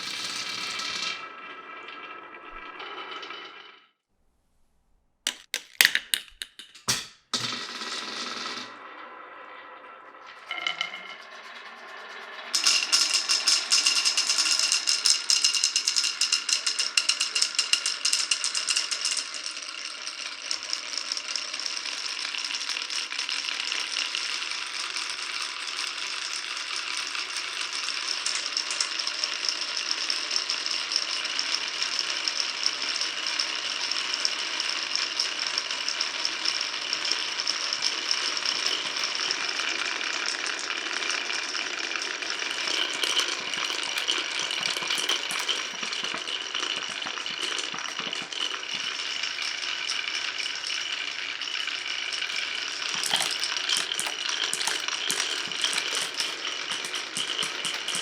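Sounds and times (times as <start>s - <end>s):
marbles rattling on wooden run: 5.3s - 8.9s, 10.3s - 31.4s, 33.0s - 58.0s.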